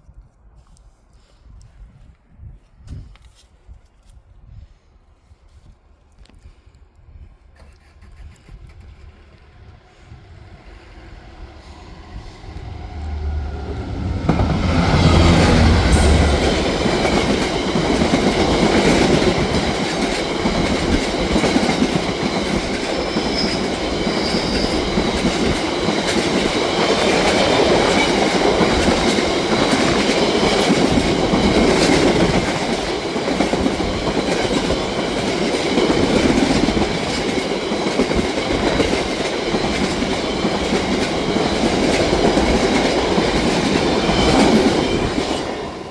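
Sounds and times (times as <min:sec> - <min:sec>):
train passing: 0:08.6 - 0:45.9.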